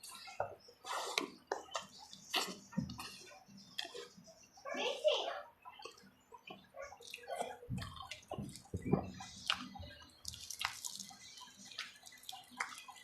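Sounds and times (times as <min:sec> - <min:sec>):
wet chewing and smacking: 0:00.0 - 0:04.6, 0:05.6 - 0:13.0.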